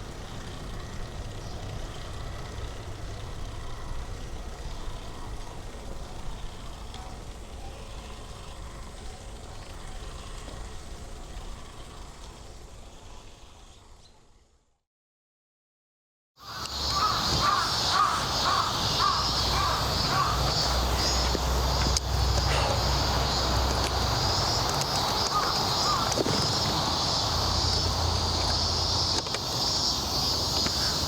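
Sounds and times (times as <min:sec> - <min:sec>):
traffic rumble: 0:00.0 - 0:12.9, 0:16.4 - 0:31.0.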